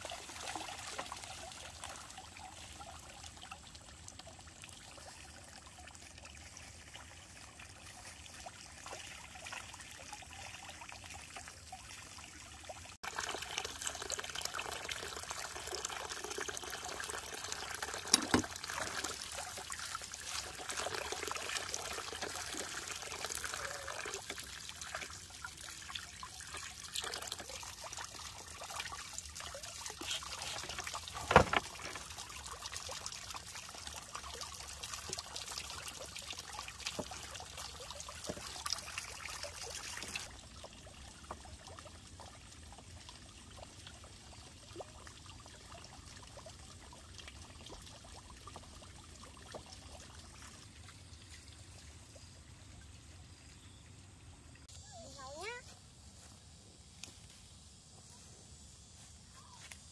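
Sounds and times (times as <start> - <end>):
water running and trickling: 0.0 - 59.9.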